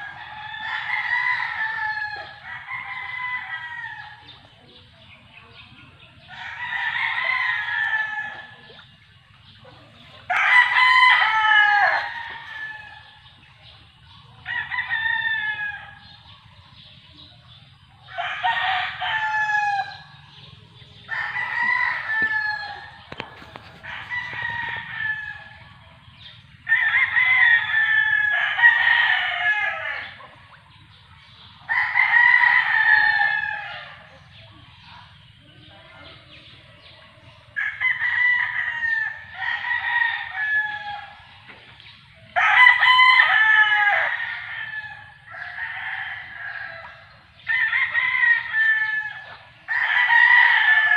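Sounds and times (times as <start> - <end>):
roosters crowing: 0.0 - 4.3, 6.2 - 8.7, 10.2 - 16.4, 18.0 - 30.6, 31.6 - 34.3, 36.8 - 41.4, 42.3 - 50.9.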